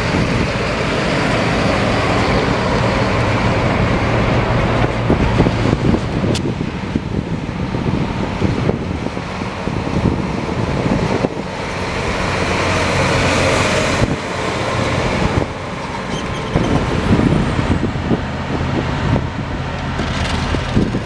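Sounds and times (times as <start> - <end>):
dump trucks driving past: 0.0 - 21.0.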